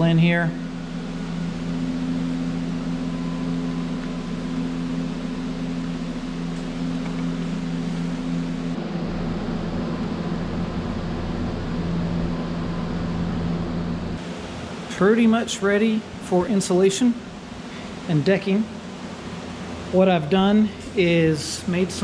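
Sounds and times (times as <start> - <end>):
fan humming and rushing air: 0.0 - 22.0.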